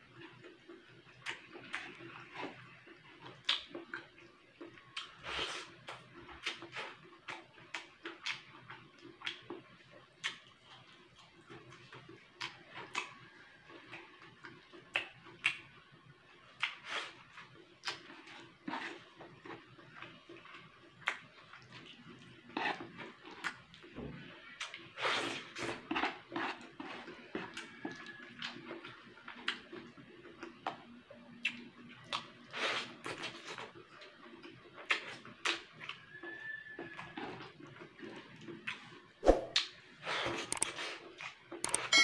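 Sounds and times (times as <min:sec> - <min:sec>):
wet chewing smacks and mouth clicks: 0:00.1 - 0:41.8.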